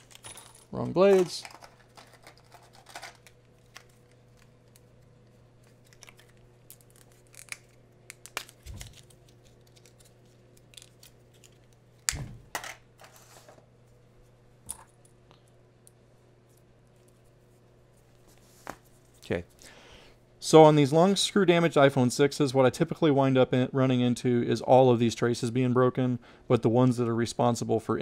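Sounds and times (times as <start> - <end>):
faint electrical hum: 0.0 - 28.0.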